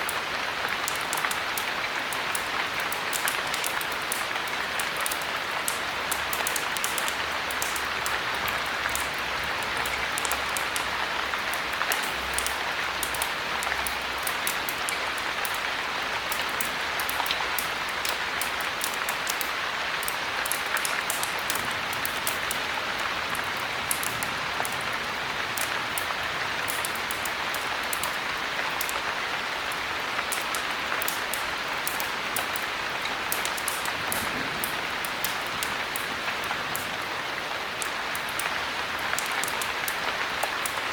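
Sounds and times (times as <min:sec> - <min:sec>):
heavy rain: 0:00.0 - 0:40.9
wood fire crackling: 0:00.0 - 0:40.9.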